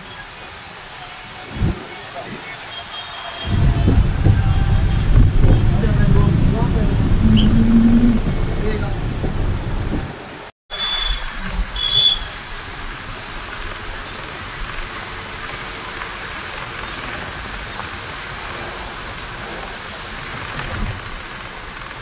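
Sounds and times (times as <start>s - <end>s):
bus road and engine noise: 0.0s - 22.0s.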